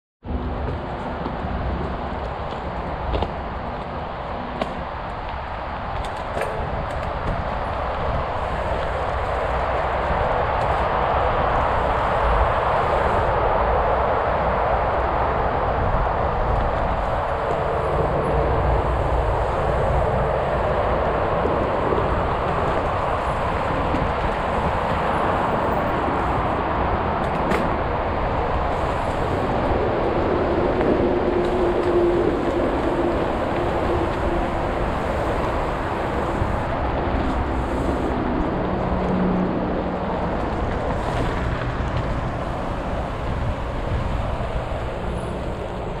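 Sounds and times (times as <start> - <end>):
wind noise on microphone: 0.2 - 46.0
bike tyres rumbling on rough trail: 0.3 - 46.0.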